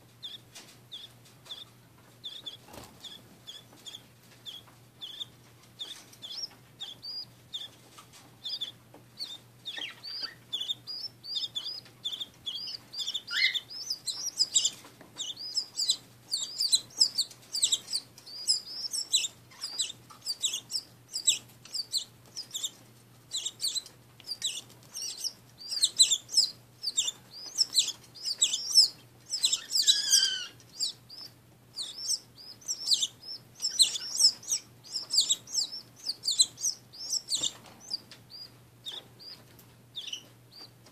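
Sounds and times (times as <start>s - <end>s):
nestlings cheeping: 0.2s - 40.8s.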